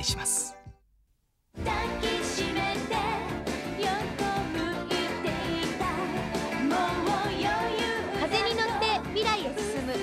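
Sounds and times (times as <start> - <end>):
upbeat pop song with vocals: 1.6 - 10.0.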